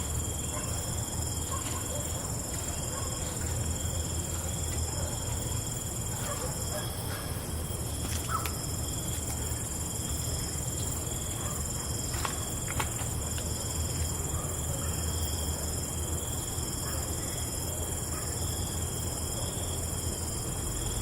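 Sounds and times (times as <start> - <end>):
crickets and insects trilling: 0.0 - 21.0.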